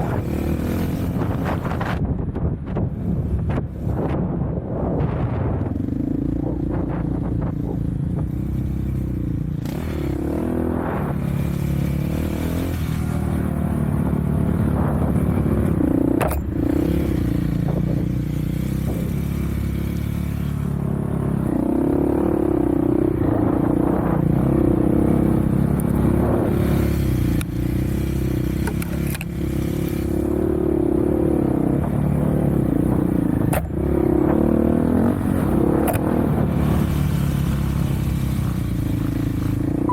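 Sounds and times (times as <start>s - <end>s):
off-road vehicle engine revving: 0.0s - 2.0s, 6.0s - 39.9s.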